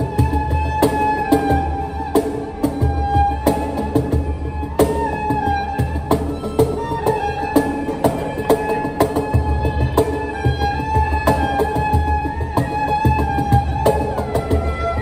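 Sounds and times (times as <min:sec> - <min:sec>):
cajon beat: 0:00.0 - 0:15.0
erhu melody: 0:00.0 - 0:15.0.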